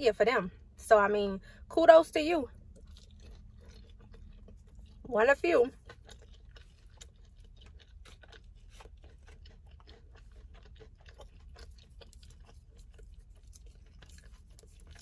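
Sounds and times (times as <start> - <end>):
person chewing with wet smacking: 2.4 - 15.0.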